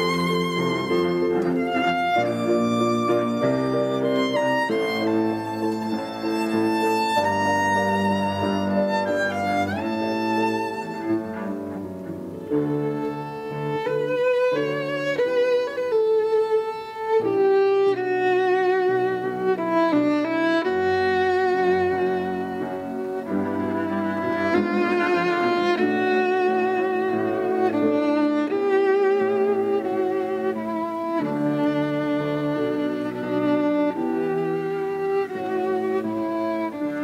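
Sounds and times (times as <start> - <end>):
cello line: 0.0 - 37.0
held string chords: 0.0 - 37.0
violin melody with vibrato: 0.0 - 37.0.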